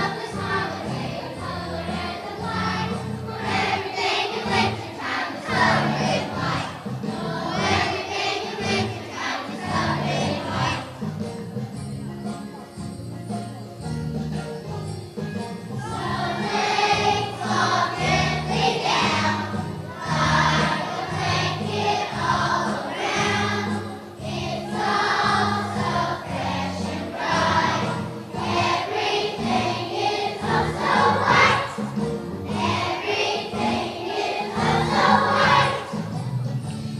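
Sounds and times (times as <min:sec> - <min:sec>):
choir singing with accompaniment: 0:00.0 - 0:11.9, 0:15.6 - 0:36.9.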